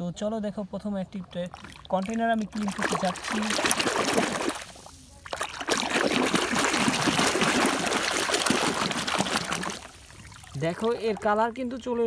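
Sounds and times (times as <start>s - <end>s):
water splashing and trickling: 0.8s - 12.0s.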